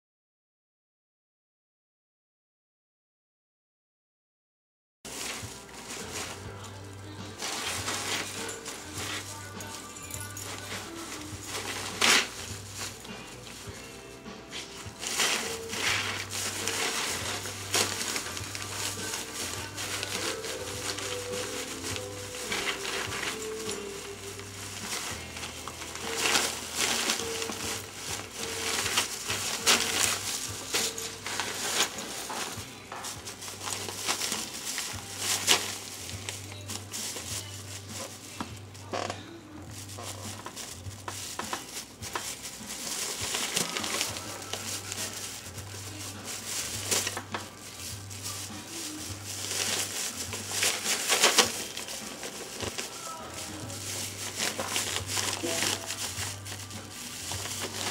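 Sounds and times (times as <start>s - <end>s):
plastic bag crinkling: 5.1s - 57.9s.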